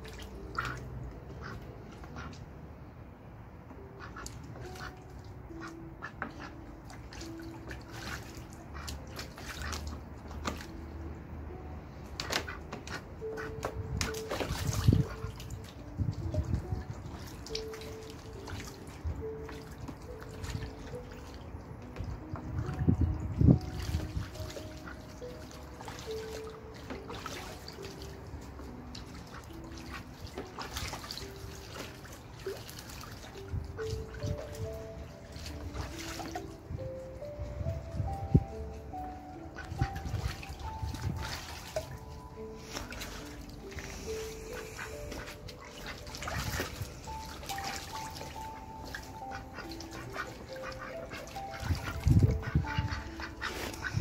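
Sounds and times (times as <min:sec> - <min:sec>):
ducks splashing water: 0:00.0 - 0:02.6, 0:04.0 - 0:11.2, 0:11.8 - 0:54.0
soft background music: 0:00.0 - 0:54.0.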